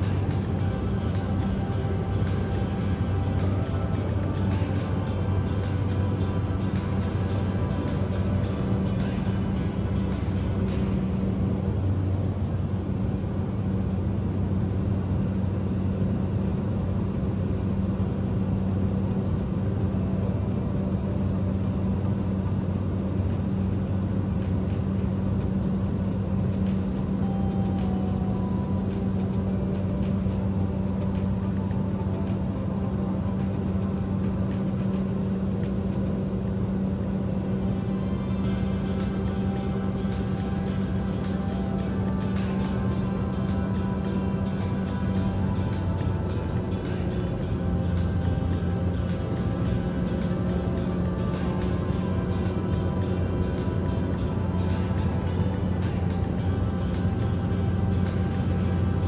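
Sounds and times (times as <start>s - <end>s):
aircraft engine droning in cabin: 0.0s - 59.0s.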